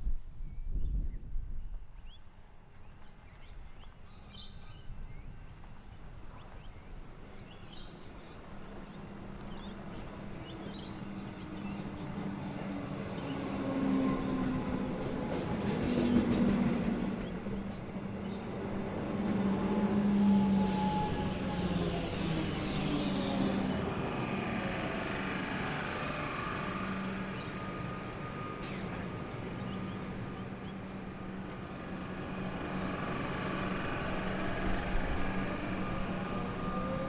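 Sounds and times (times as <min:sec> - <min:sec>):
electric train rumble and hum: 0:05.5 - 0:37.0.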